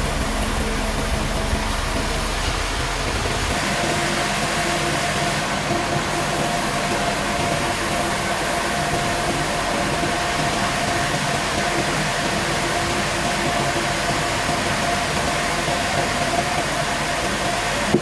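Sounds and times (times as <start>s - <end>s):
sawmill machinery humming: 0.0s - 18.0s.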